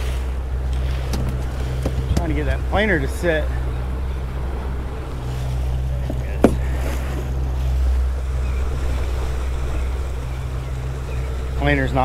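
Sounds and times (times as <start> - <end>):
outboard motor running: 0.0 - 12.0
water churning: 0.0 - 12.0.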